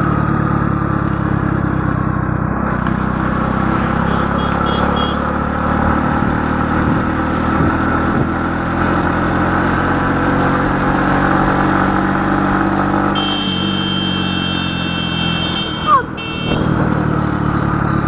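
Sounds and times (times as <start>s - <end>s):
road noise: 0.0s - 18.0s
vehicle engine running: 0.0s - 18.0s.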